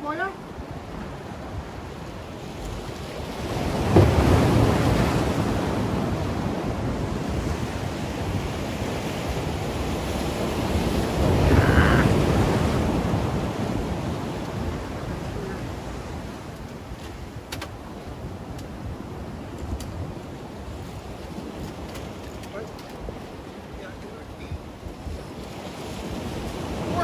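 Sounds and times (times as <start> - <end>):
sea waves breaking on rocks: 0.0 - 27.0.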